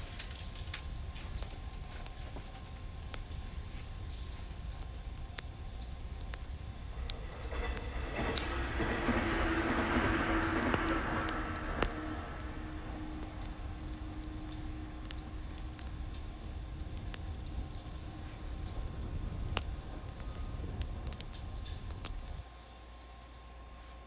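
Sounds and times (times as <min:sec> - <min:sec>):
fire hiss: 0:00.0 - 0:22.4
wood fire crackling: 0:00.0 - 0:22.5.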